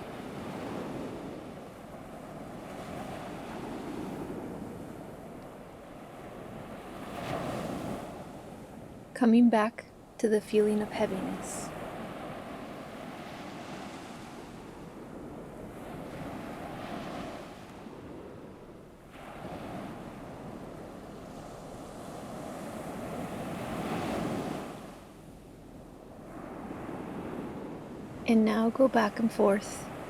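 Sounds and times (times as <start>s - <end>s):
ocean waves rolling in: 0.0s - 30.0s.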